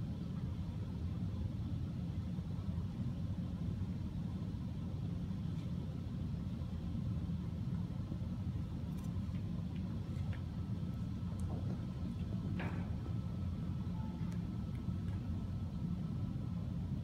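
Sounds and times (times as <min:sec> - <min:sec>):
low rumble of room noise: 0:00.0 - 0:17.0.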